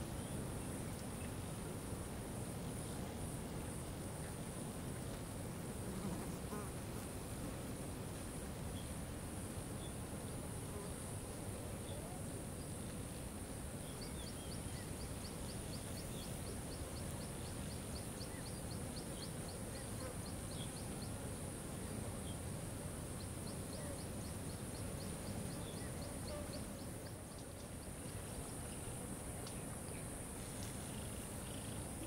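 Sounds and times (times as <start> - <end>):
faint high hiss: 0.0 - 32.0.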